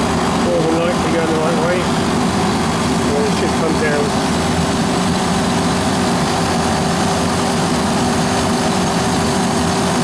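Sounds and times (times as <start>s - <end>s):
compressor humming: 0.0s - 10.0s.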